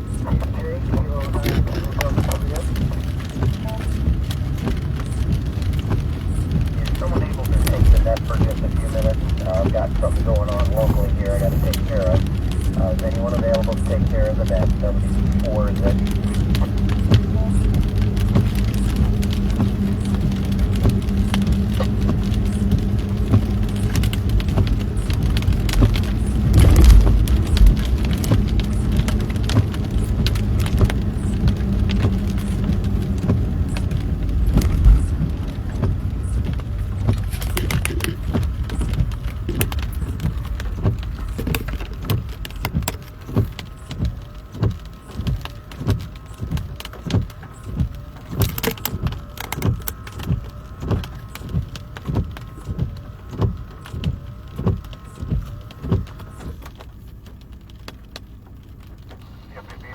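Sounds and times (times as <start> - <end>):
heavy raindrops striking car: 0.0 - 59.9
low vehicle hum: 0.0 - 59.9
rain beating on car roof: 0.0 - 59.9.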